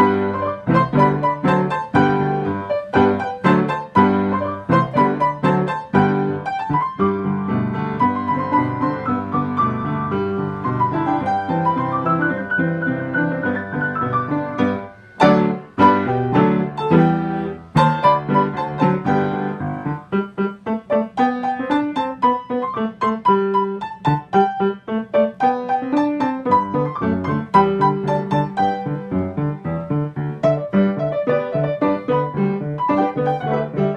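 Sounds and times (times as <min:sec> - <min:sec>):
piano playing: 0:00.0 - 0:33.9.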